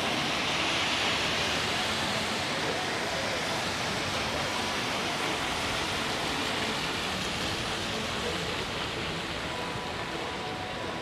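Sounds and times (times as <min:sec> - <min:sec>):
heavy rain hiss: 0:00.0 - 0:11.0.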